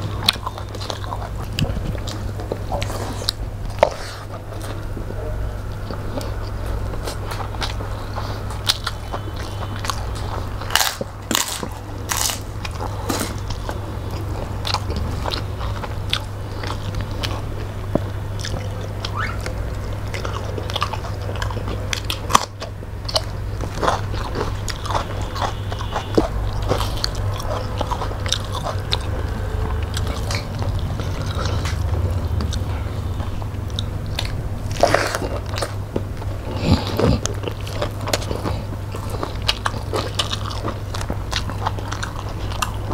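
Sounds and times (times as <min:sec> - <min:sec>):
people eating and chewing: 0:00.0 - 0:42.9
steady low hum: 0:00.0 - 0:42.9.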